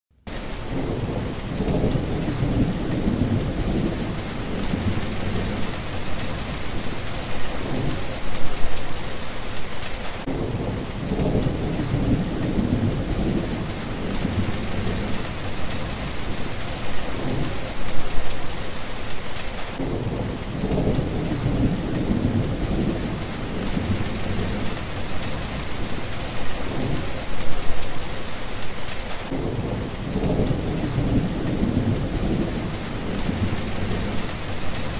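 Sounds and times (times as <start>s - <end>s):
heavy rain pouring: 0.3s - 34.9s
rolling thunder: 0.6s - 8.2s, 10.2s - 17.7s, 19.8s - 27.2s, 29.3s - 34.9s.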